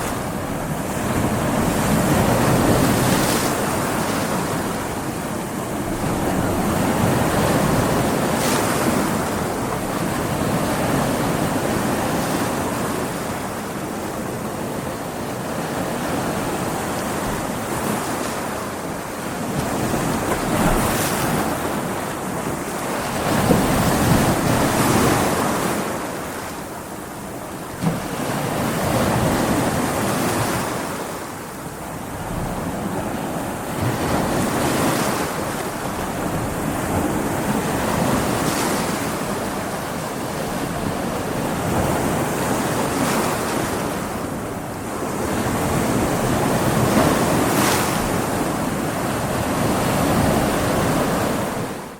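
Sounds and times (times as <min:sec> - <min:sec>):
ocean waves breaking: 0:00.0 - 0:51.9
wind: 0:00.0 - 0:51.9.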